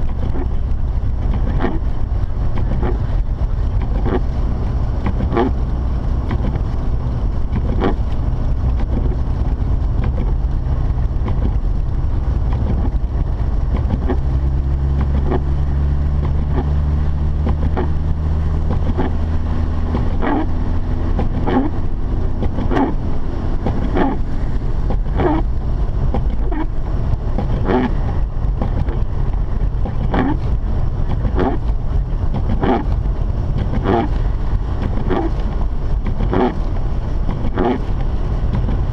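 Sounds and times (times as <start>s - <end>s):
car engine heard inside cabin: 0.0s - 38.9s.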